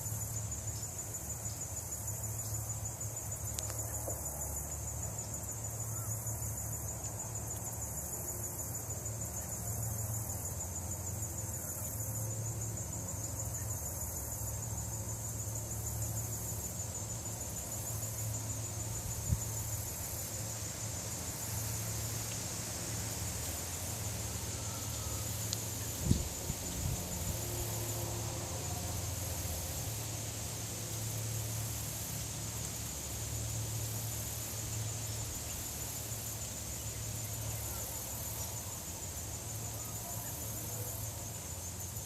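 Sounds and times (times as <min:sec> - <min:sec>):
crickets chirring: 0:00.0 - 0:42.0.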